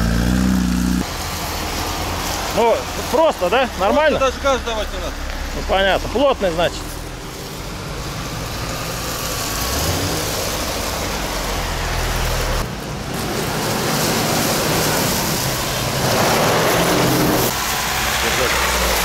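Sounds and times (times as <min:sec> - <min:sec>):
off-road cars driving past: 0:00.0 - 0:19.0.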